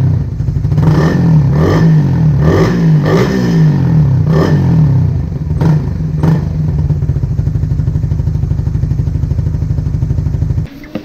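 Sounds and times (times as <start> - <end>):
motorcycle engine revving and idling: 0.0 - 10.7.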